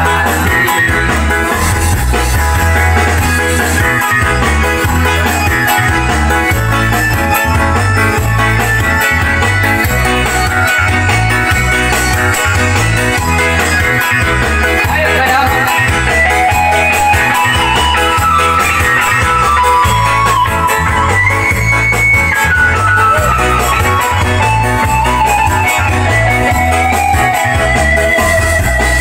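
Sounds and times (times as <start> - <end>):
pop song with guitar and bass: 0.0 - 29.0.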